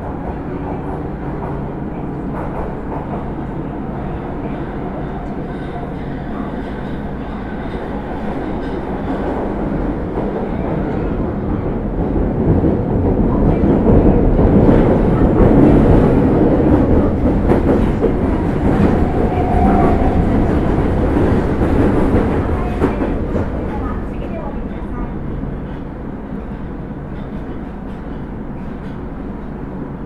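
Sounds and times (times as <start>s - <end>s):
subway train running on rails: 0.0s - 30.0s.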